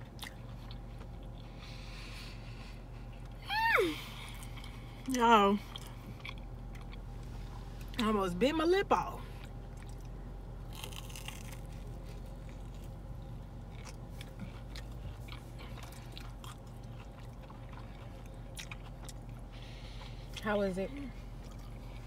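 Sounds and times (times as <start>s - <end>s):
person chewing crunchy food: 0.0s - 3.4s, 4.3s - 8.0s, 9.3s - 20.4s, 21.2s - 22.0s
steady low hum: 0.0s - 22.0s.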